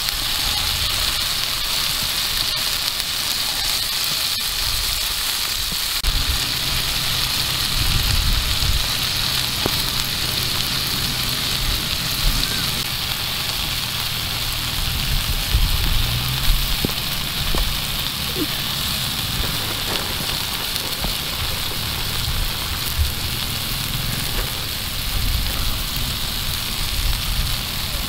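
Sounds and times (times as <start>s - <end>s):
faint crackles: 0.0s - 28.0s
vegetables sizzling in oil: 0.0s - 28.0s.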